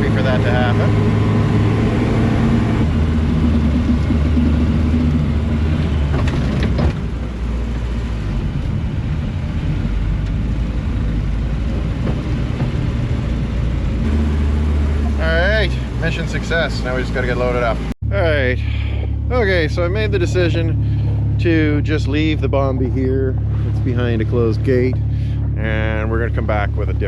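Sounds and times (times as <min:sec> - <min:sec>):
snowcat engine running: 0:00.0 - 0:27.0.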